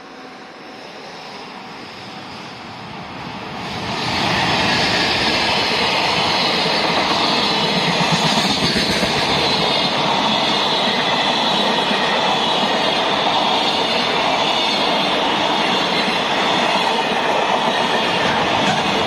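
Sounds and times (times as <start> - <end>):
electric locomotive passing: 0.0 - 19.0
train wheels rumbling on track: 0.0 - 19.0.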